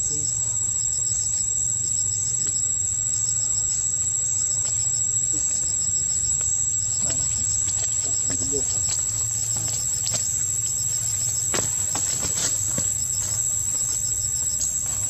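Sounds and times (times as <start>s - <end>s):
high-pitched insect trill: 0.0s - 15.0s
insects chirping in pulses: 0.0s - 15.0s.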